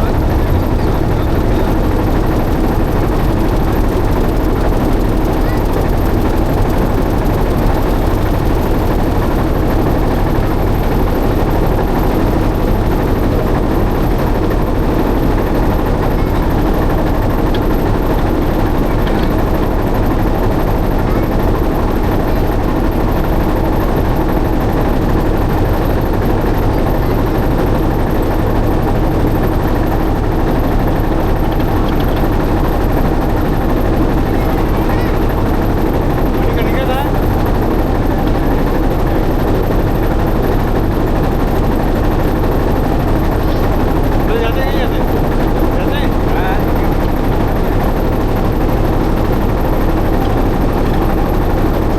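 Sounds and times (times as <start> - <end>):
boat engine droning: 0.0 - 51.9.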